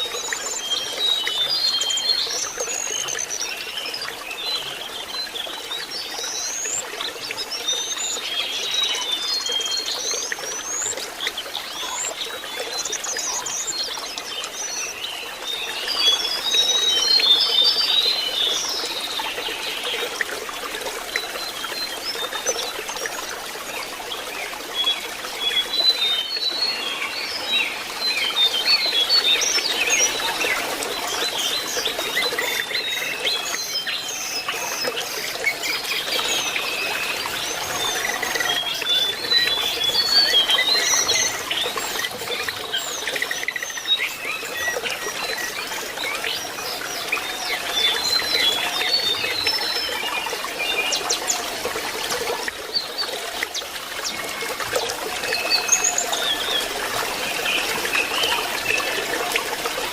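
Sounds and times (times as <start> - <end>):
trickling water: 0.0 - 59.9.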